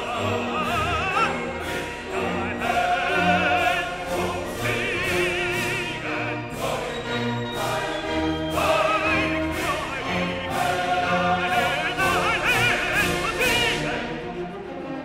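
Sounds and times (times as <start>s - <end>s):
operatic voice singing: 0.0s - 14.6s
orchestral accompaniment: 0.0s - 15.0s.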